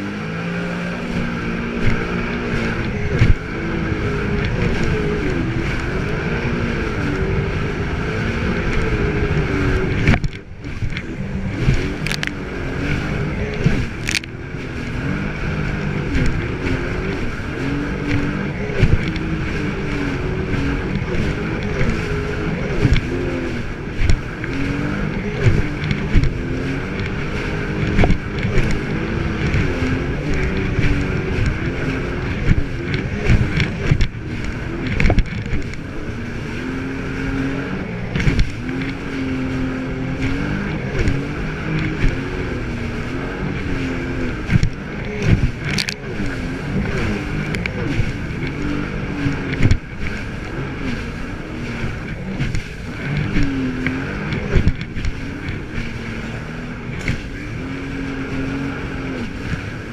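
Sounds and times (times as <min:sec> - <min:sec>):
hull thumping on waves: 0:00.0 - 0:59.9
watercraft engine running: 0:00.0 - 0:59.9.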